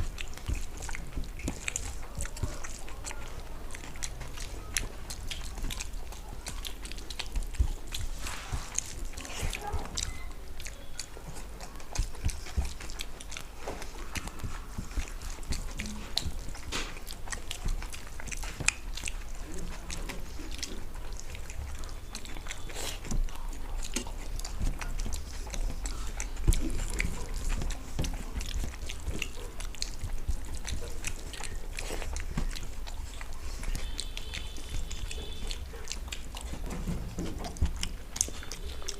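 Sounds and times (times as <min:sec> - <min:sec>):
people chewing and smacking: 0:00.0 - 0:38.9.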